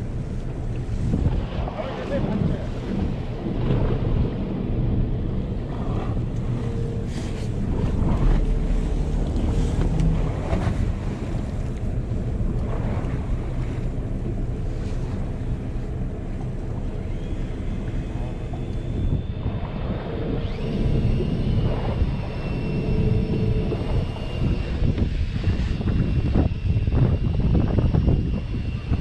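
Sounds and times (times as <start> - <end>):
boat engine running: 0.0 - 29.0
sea noise: 0.0 - 29.0
wind buffeting microphone: 0.0 - 29.0.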